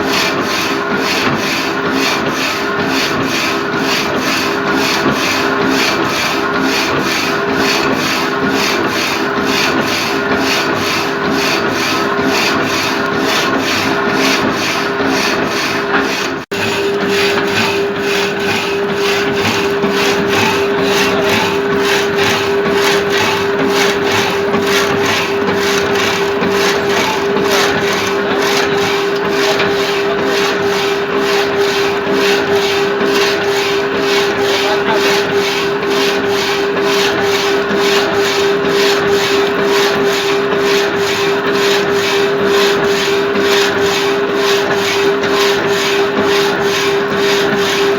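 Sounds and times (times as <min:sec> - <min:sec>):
reciprocating saw rasping: 0:00.0 - 0:47.9.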